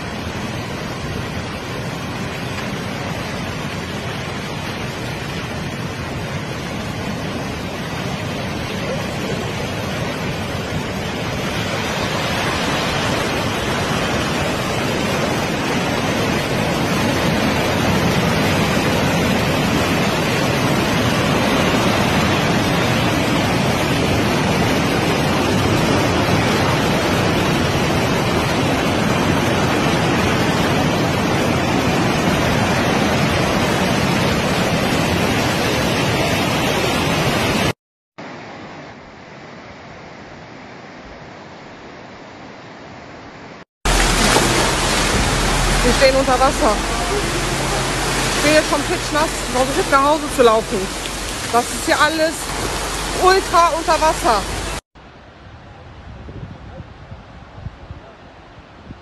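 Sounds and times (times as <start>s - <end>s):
floodwater rushing: 0.0s - 39.0s, 43.9s - 55.5s.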